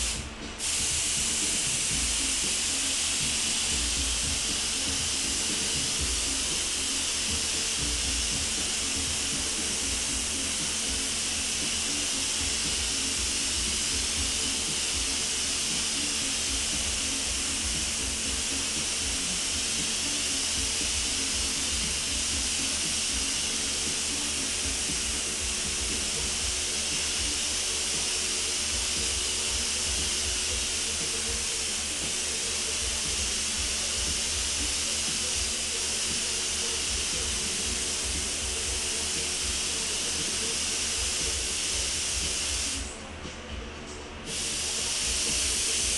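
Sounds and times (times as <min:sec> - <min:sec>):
paint spray gun hissing: 0:00.0 - 0:43.0, 0:44.2 - 0:45.9.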